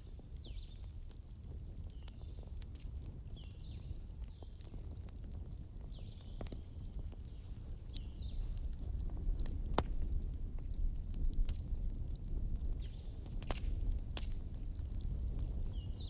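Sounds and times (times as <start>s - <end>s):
fire crackles and pops: 0.0s - 16.0s
wood fire rumbling: 0.0s - 16.0s.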